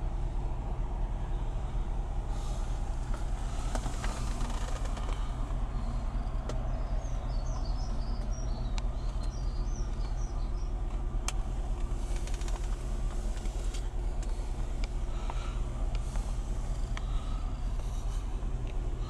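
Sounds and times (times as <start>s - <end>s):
car engine idling: 0.0s - 19.0s
birds chirping: 1.2s - 19.0s.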